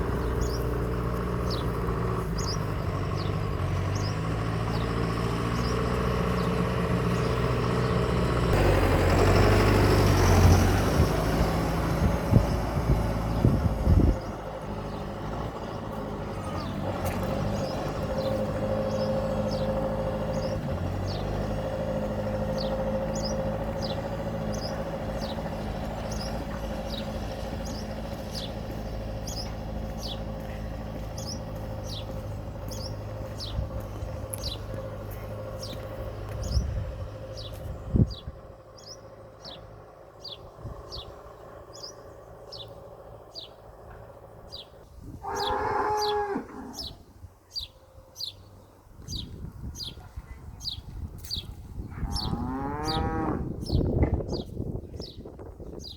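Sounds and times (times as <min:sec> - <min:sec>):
bird chirping: 0:00.0 - 0:08.1, 0:13.3 - 0:21.7, 0:22.5 - 0:43.7, 0:44.4 - 0:55.9
tractor engine running: 0:00.0 - 0:45.5.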